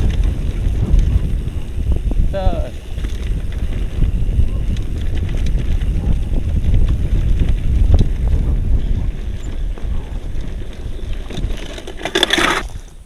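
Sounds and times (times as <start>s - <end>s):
mountain bike rattling over trail: 0.0s - 13.0s
wind buffeting the microphone: 0.0s - 13.0s.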